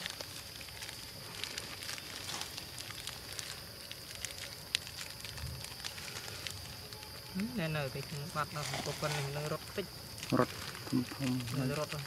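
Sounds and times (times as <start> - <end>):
leaves and grass rustling: 0.0 - 12.0.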